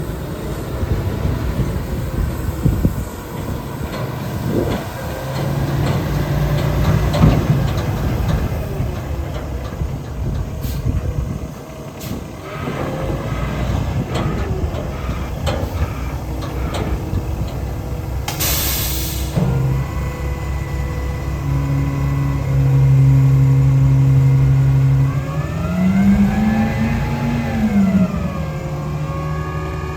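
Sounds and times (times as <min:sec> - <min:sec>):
diesel truck engine rumbling: 0:00.0 - 0:29.9.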